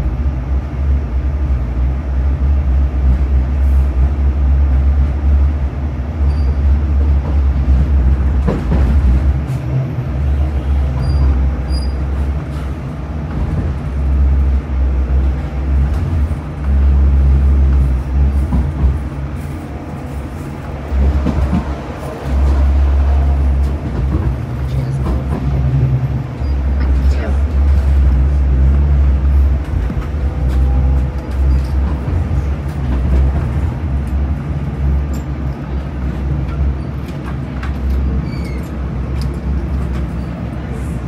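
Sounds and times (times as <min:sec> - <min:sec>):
tram rumbling on rails: 0:00.0 - 0:41.0.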